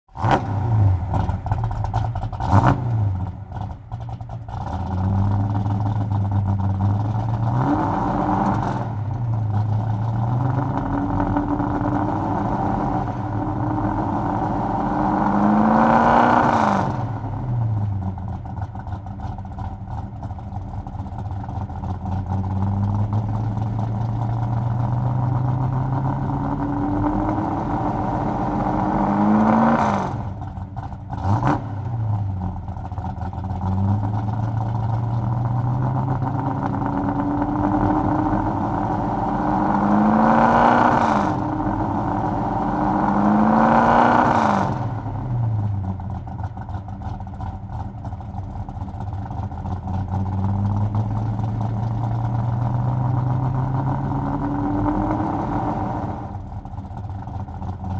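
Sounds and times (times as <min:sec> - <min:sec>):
car engine accelerating: 0:00.1 - 0:57.9.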